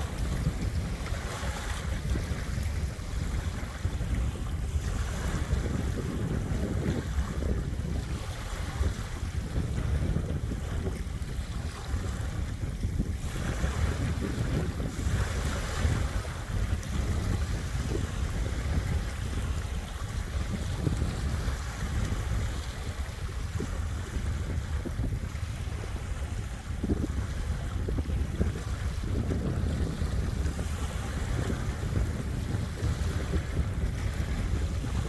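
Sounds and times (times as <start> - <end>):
small waves washing onto beach: 0.0 - 35.0
wind rumbling on microphone: 0.0 - 35.0.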